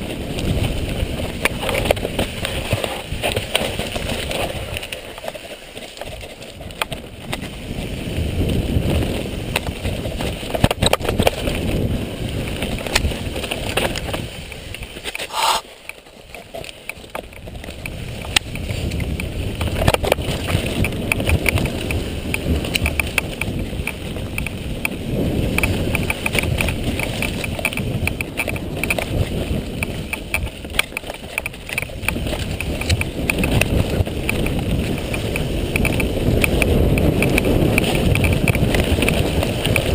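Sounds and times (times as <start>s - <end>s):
wind buffeting microphone: 0.0s - 15.7s, 16.3s - 39.9s
bike rattling over bumps: 0.0s - 39.9s
bike tyres rumbling over dirt: 0.0s - 39.9s.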